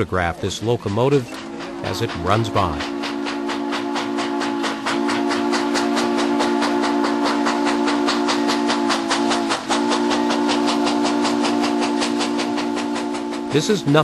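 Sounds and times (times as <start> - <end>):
rapid exhaust chuffs: 0.0 - 14.0
steam locomotive whistle: 0.7 - 14.0.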